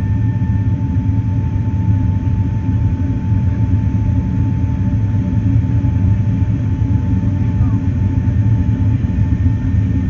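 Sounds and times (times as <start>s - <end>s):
low rumble of engines and airflow: 0.0s - 10.0s.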